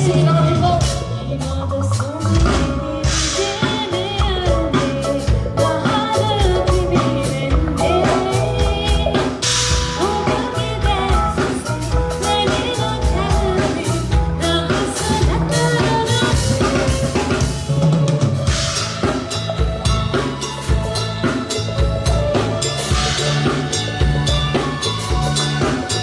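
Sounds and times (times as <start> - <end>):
drum kit beat with rimshots: 0.0 - 26.0
live band music: 0.0 - 26.0.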